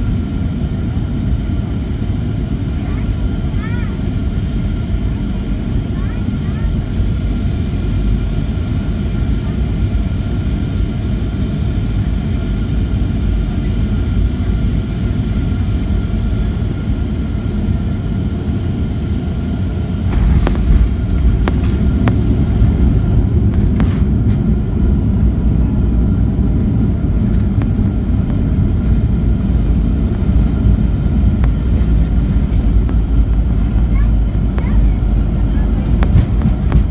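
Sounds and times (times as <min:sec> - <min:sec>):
airplane cabin rumble: 0:00.0 - 0:36.9
jet engine whine: 0:00.0 - 0:36.9.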